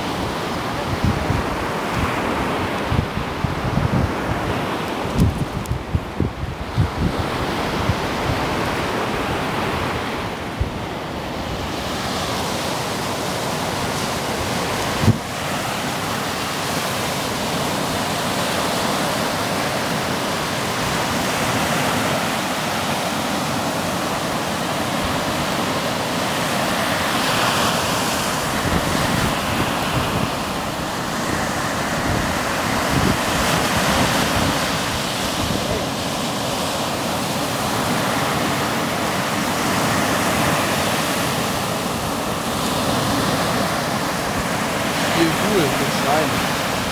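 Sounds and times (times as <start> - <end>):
waves breaking on beach: 0.0 - 46.9
wind buffeting microphone: 0.0 - 46.9.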